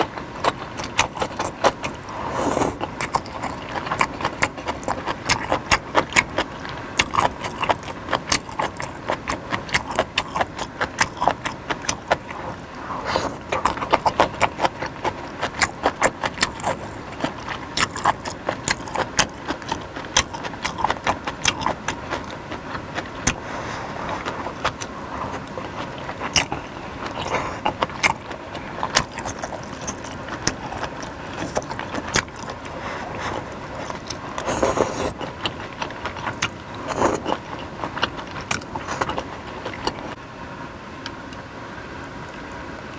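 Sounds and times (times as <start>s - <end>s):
wet chewing and mouth noises: 0.0s - 40.2s.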